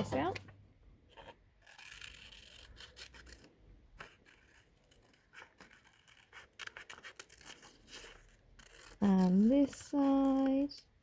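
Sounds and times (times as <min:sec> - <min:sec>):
scissors snipping paper: 0:01.2 - 0:10.9.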